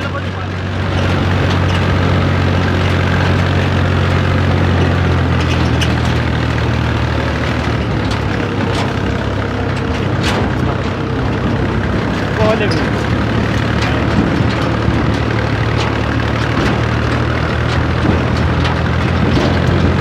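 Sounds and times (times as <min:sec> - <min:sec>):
sharp knocks and clatters: 0:00.0 - 0:20.0
tractor engine running: 0:00.0 - 0:20.0.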